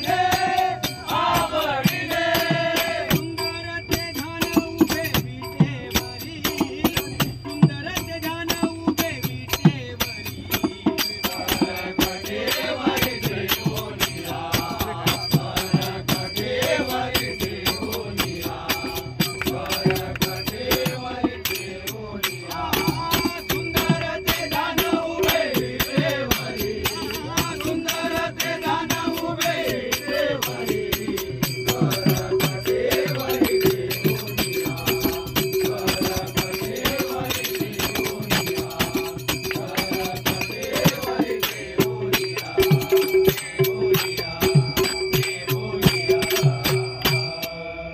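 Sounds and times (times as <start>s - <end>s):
drum beat: 0.0s - 47.4s
hand cymbals: 0.0s - 47.9s.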